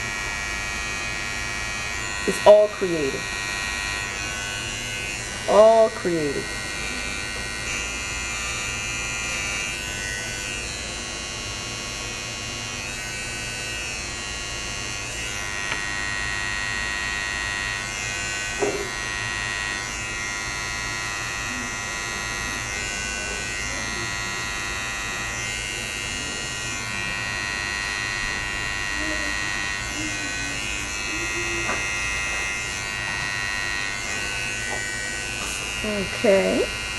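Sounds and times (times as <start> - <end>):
electric hair clippers running: 0.0 - 36.9.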